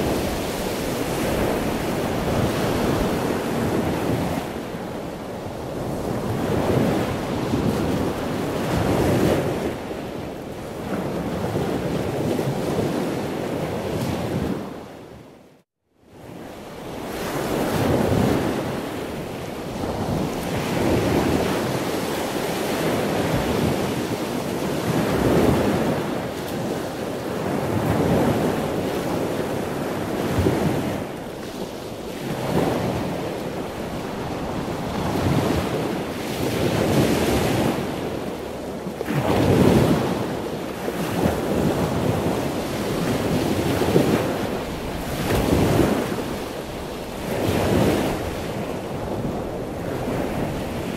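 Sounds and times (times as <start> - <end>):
sea waves washing in: 0.0 - 15.0, 16.2 - 50.9.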